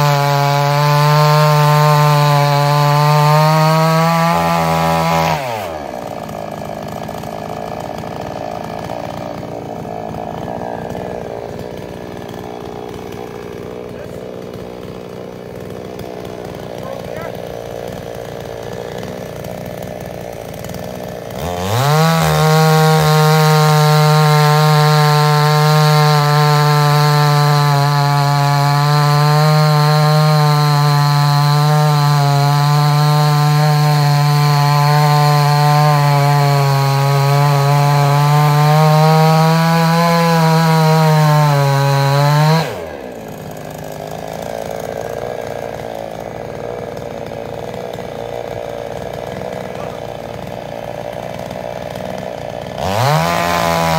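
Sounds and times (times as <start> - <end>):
chainsaw engine revving: 0.0 - 53.9.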